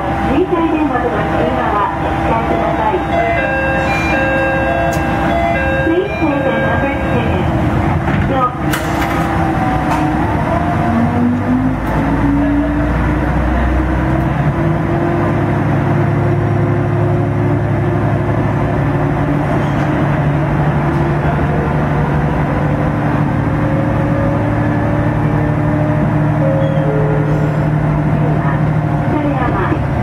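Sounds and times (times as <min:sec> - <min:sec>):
diesel engine running: 0:00.0 - 0:30.0
wheels rumbling on rail: 0:00.0 - 0:30.0.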